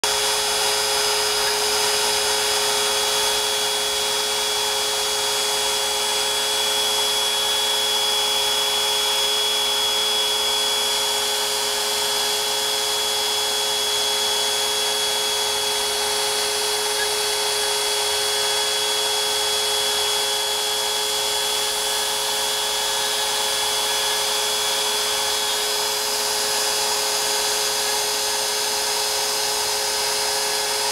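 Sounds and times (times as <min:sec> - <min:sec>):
router spindle high whine: 0:00.0 - 0:30.9.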